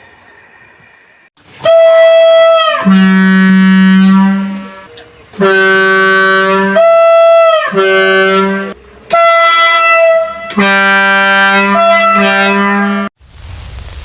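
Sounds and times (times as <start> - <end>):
locomotive two-tone air horn: 1.6 - 13.1.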